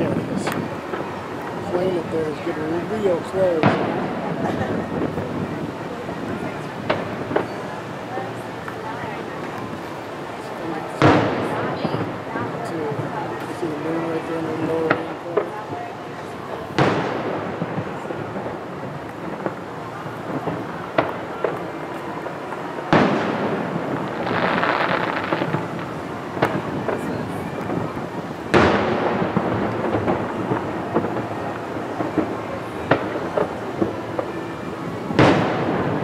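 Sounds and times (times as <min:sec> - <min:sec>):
firework cracks: 0:00.0 - 0:36.0
fireworks booming: 0:00.0 - 0:36.0
hissing crackle of fireworks: 0:00.0 - 0:36.0.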